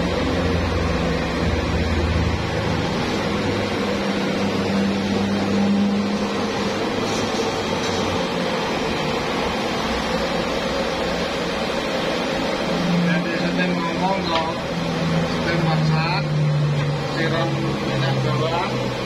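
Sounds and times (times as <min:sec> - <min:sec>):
deep drone: 0:00.0 - 0:19.0
mechanical hum: 0:00.0 - 0:19.0.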